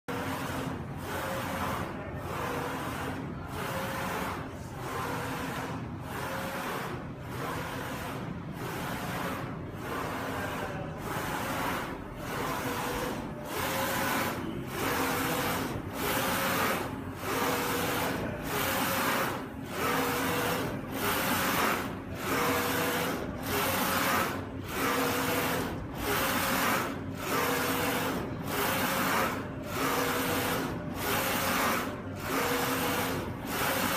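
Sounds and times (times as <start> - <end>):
printer carriage whirring: 0.1 - 33.9.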